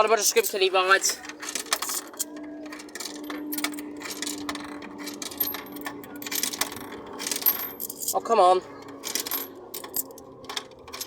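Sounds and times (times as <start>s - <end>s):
coins clicking through coin slot: 1.2s - 8.2s, 8.8s - 11.0s.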